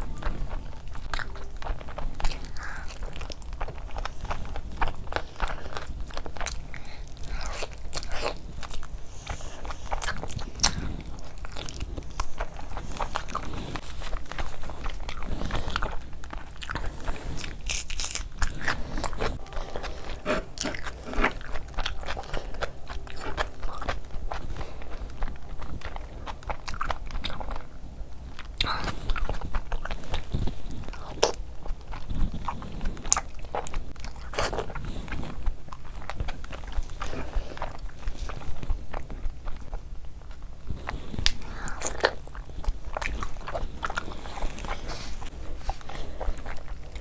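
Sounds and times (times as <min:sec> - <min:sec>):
person chewing food: 0:00.0 - 0:47.0.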